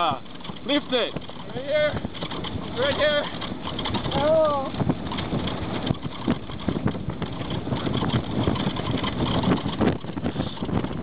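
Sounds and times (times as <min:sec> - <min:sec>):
car driving on dirt road: 0:00.0 - 0:11.0
knocks and rattles: 0:00.0 - 0:11.0.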